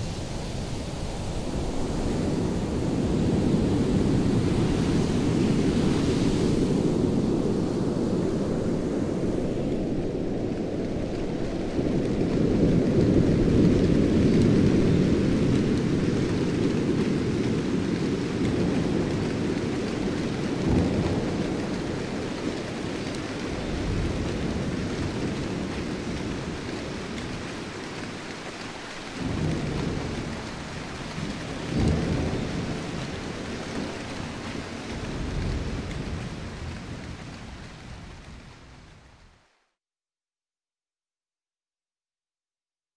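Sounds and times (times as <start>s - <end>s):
low rolls of thunder: 0.0s - 39.2s
steady rain: 0.0s - 39.8s.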